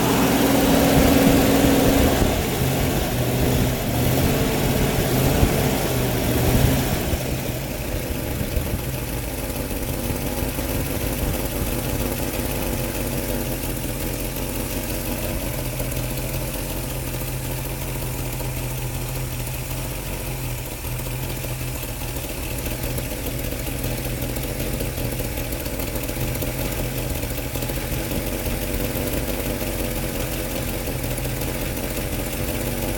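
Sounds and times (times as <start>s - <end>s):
vehicle engine idling: 0.0s - 32.9s.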